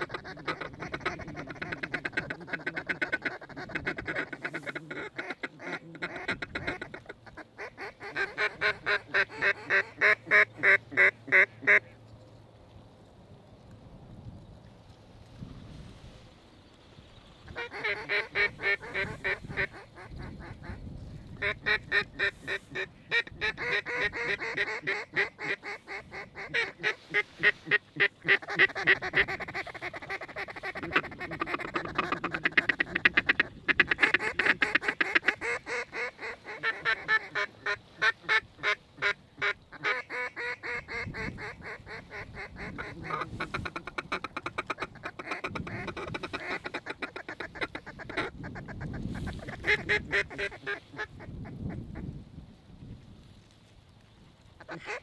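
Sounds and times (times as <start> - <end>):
geese honking: 0.0 - 11.9, 17.5 - 20.8, 21.4 - 51.2
ducks quacking: 0.0 - 12.0, 17.5 - 51.8, 54.6 - 55.0.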